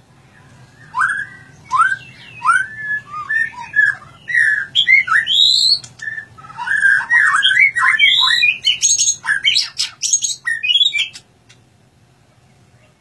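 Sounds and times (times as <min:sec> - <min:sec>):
bird singing whistled phrases: 0:00.4 - 0:11.3.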